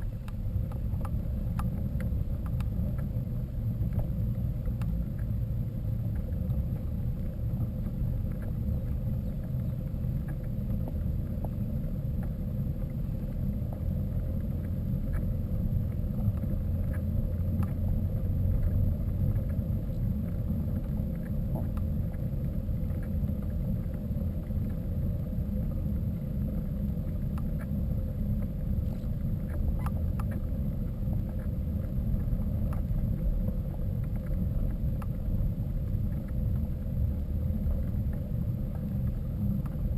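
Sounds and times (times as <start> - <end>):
faint clicks and rattles: 0.0 - 39.9.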